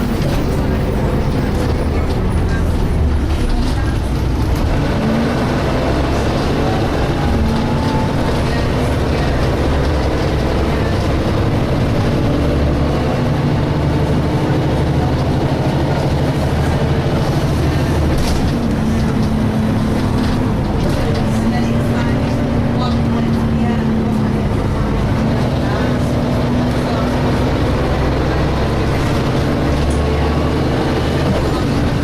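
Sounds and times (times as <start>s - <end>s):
bus diesel engine droning: 0.0s - 32.0s
road and body rumble: 0.0s - 32.0s.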